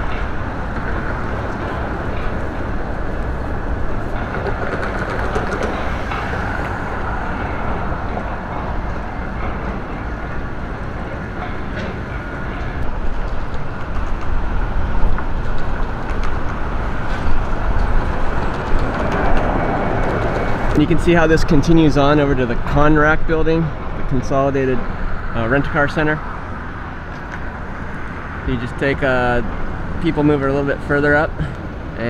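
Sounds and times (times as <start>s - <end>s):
vehicle road noise rumbling: 0.0s - 32.0s.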